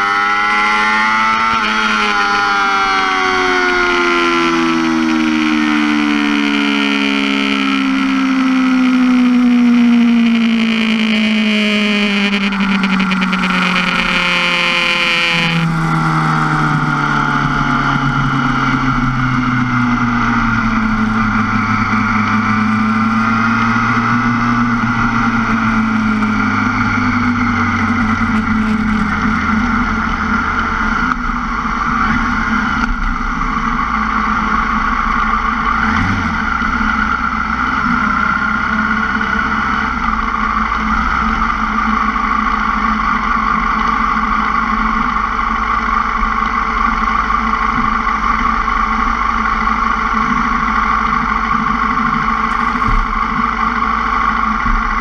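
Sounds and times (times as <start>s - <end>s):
motorcycle engine winding down: 0.0s - 55.0s.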